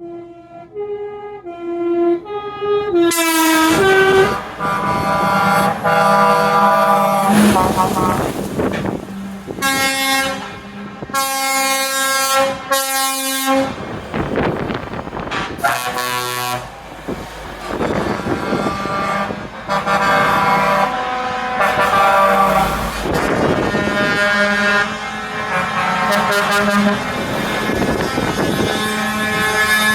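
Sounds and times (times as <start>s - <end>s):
truck air horn blasts: 0.0s - 14.4s, 15.3s - 29.9s
road noise: 0.0s - 29.9s
truck engine: 0.0s - 29.9s.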